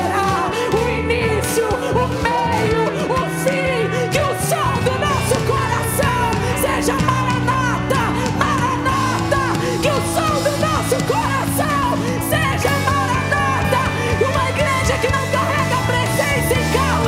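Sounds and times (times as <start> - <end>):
drum kit: 0.0 - 17.0
guitars: 0.0 - 17.0
voices singing: 0.0 - 17.0.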